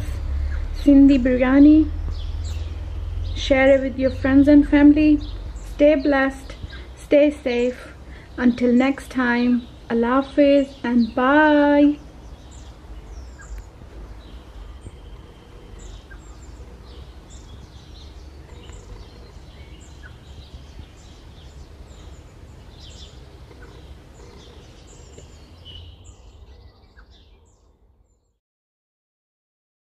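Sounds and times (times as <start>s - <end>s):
low steady rumble: 0.0s - 27.5s
small birds chirping: 0.0s - 28.4s.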